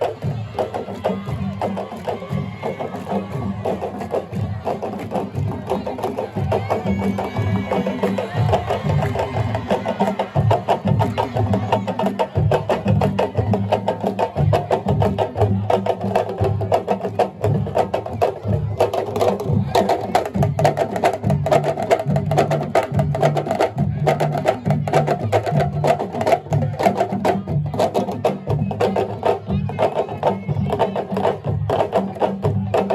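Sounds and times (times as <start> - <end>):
ensemble of drums playing: 0.0 - 32.9.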